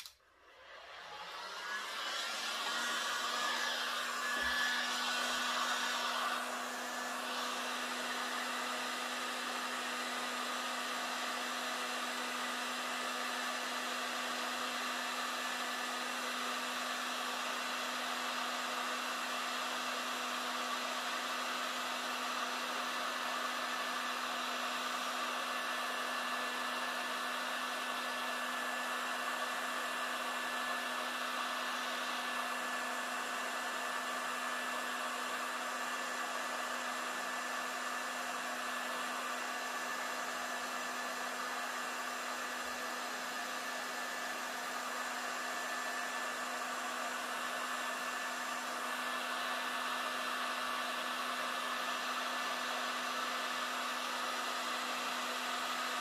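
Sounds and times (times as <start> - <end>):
heat gun blowing air: 0.0 - 56.0.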